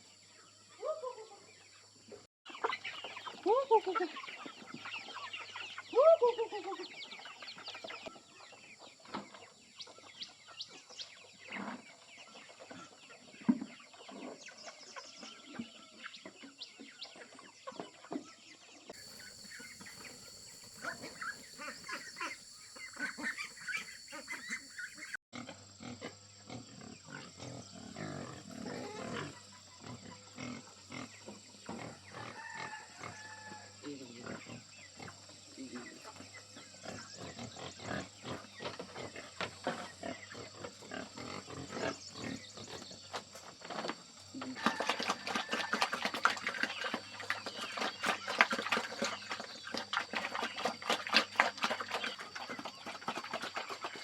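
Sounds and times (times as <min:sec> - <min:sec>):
chickens clucking and squawking: 0:02.5 - 0:18.3, 0:19.0 - 0:25.2, 0:27.9 - 0:54.0.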